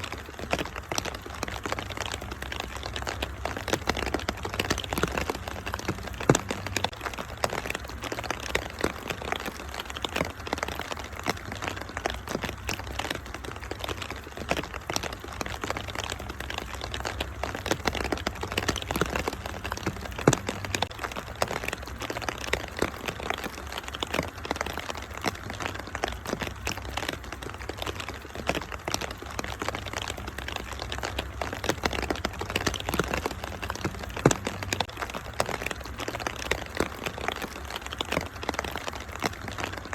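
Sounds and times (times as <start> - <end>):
low constant rumble: 0.0 - 39.9
steady rain: 0.0 - 39.9
wood fire crackling and popping: 0.0 - 39.9.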